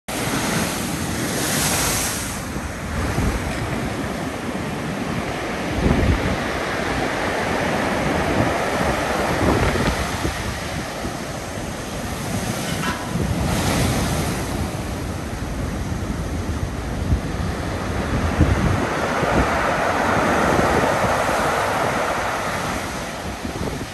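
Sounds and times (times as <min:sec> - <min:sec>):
waves breaking on beach: 0:00.1 - 0:23.9
wind buffeting microphone: 0:00.1 - 0:23.9.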